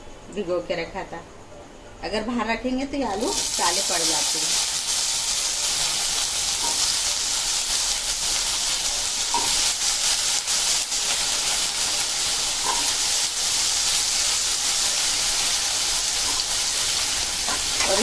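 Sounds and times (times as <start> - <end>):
potatoes sizzling in hot fat: 3.1 - 18.0.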